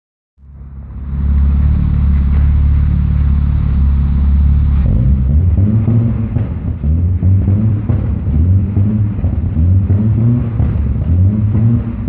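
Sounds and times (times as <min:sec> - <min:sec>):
car exhaust idling and revving: 0:00.4 - 0:12.0.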